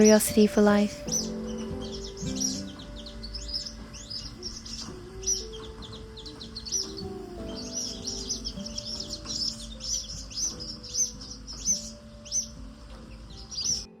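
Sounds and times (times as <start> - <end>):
chicks peeping: 0.0 - 14.0
soft background music: 0.0 - 14.0.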